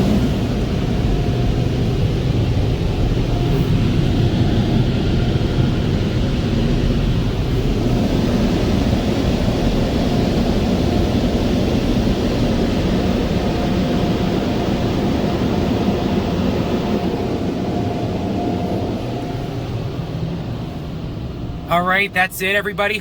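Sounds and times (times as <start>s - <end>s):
dryer blowers rushing air: 0.0s - 23.0s.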